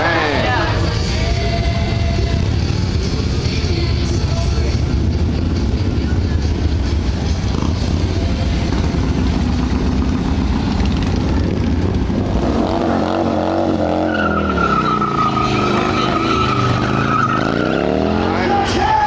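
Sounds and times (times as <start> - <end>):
engine revving: 0.0 - 19.0
motorcycle engines rumbling: 0.0 - 19.0.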